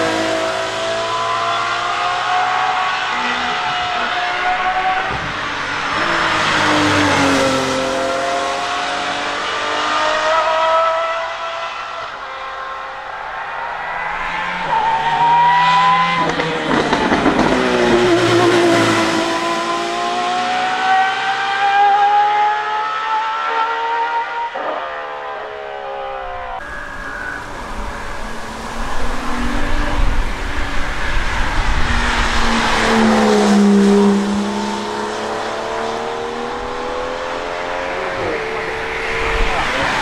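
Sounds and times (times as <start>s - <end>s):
car engine at high revs: 0.0s - 40.0s.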